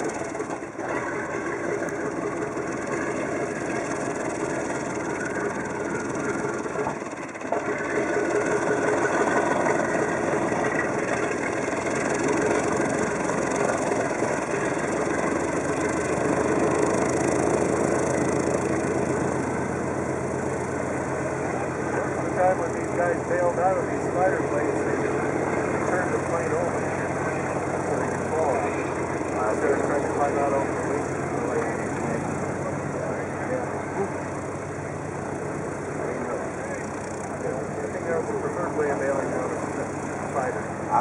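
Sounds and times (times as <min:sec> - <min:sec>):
piston aircraft engine running: 0:00.0 - 0:41.0.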